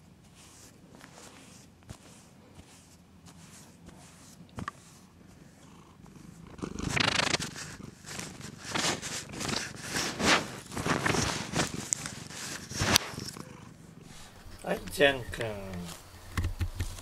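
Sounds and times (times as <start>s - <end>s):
fur brushing against camera: 0.0s - 13.4s, 14.0s - 16.0s
cat purring: 0.2s - 17.0s.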